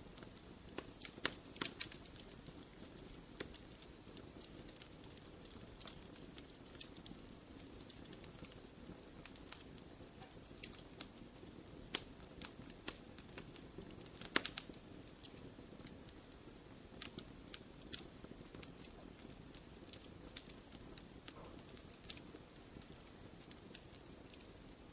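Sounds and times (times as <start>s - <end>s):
fire crackling and popping: 0.0s - 24.9s
low rumble of flames: 0.0s - 24.9s.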